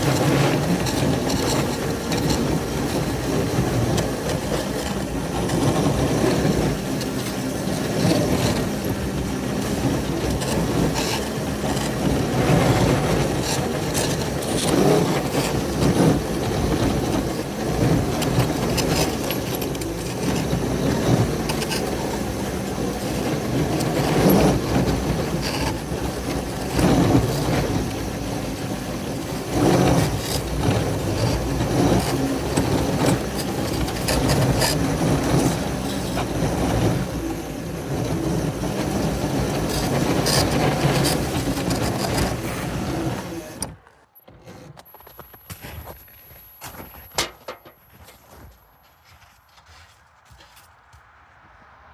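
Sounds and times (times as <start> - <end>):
rail cars rolling: 0.0 - 45.4
locomotive engines running: 0.0 - 50.0.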